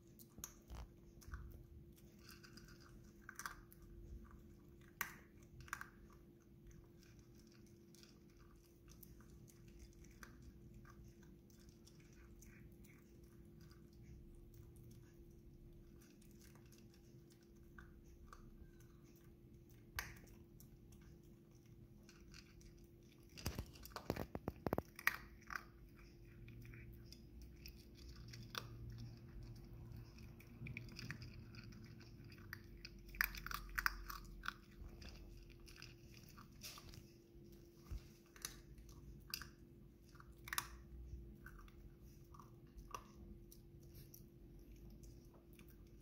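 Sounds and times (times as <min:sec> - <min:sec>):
puppy crunching kibble: 0:00.0 - 0:46.0.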